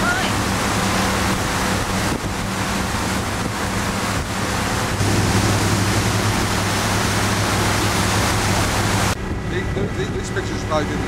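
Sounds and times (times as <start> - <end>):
boat engine drone: 0.0 - 11.0
water rushing past boat: 0.0 - 11.0
wind on microphone: 1.2 - 10.4.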